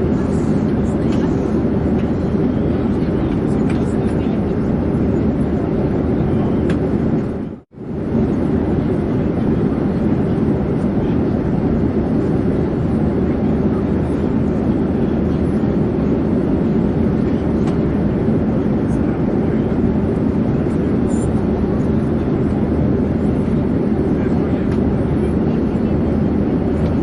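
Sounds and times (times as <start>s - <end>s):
airplane drone: 0.0s - 27.0s.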